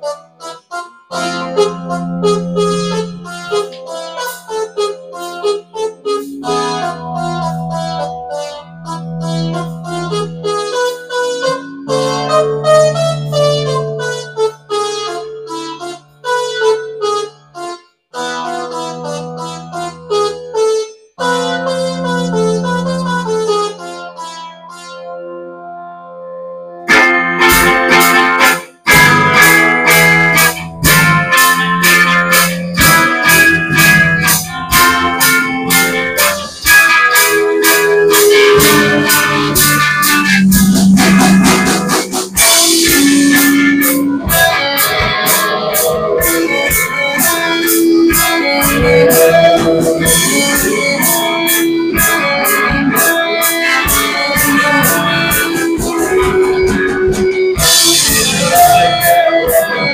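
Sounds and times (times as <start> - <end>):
live rock band playing: 0.5 - 17.3, 21.2 - 24.1, 26.8 - 59.9.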